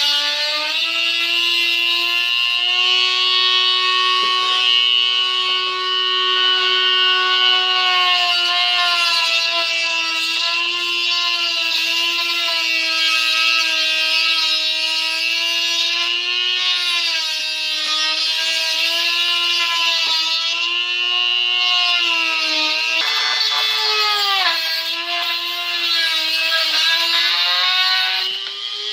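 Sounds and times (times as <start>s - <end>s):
rotary tool whining: 0.0s - 28.9s.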